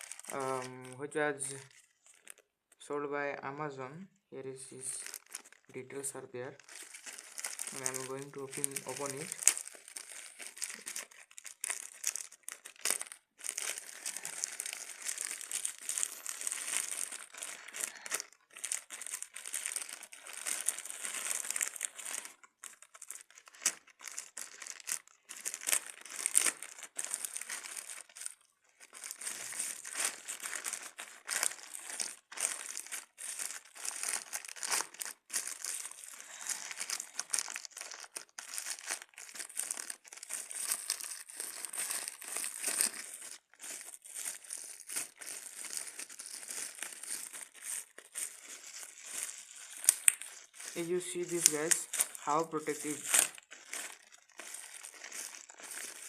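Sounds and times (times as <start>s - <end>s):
packaging crinkling: 0.0s - 2.5s, 4.6s - 56.0s.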